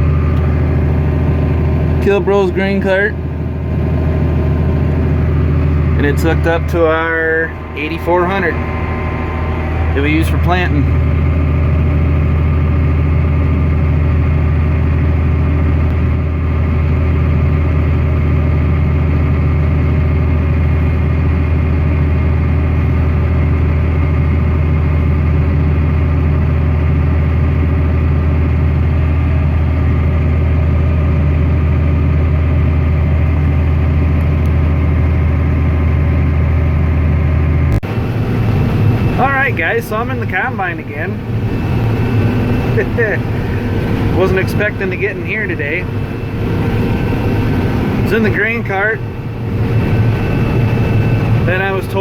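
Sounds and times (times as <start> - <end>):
thinner engine hum: 0.0 - 52.0
tractor engine droning: 0.0 - 52.0.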